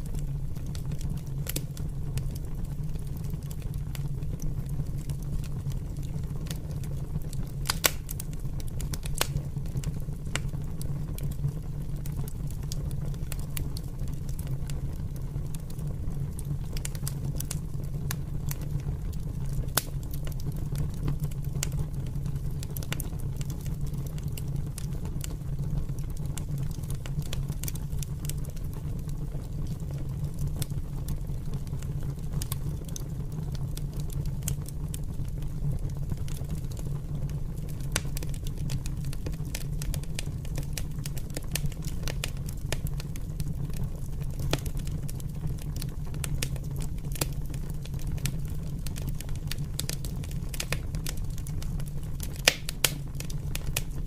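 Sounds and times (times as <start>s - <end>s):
fire popping: 0.0s - 54.0s
open fire crackling: 0.0s - 54.0s.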